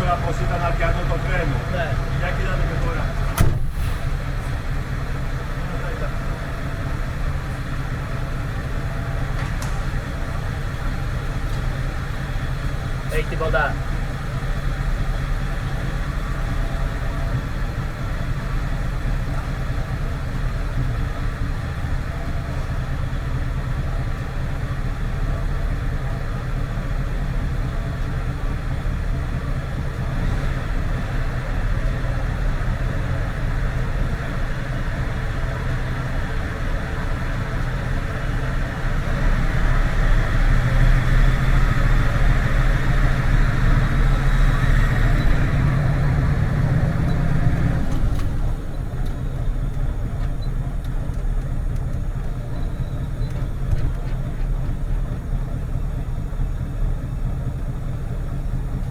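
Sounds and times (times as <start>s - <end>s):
truck diesel engine running: 0.0s - 58.9s.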